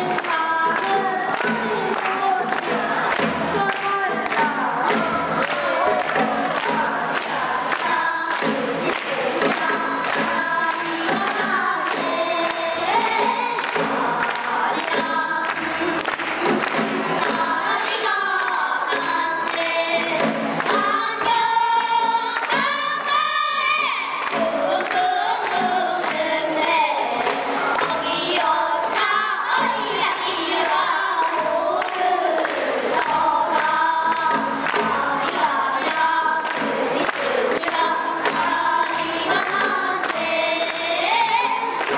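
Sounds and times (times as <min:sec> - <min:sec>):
children singing together: 0:00.0 - 0:41.9.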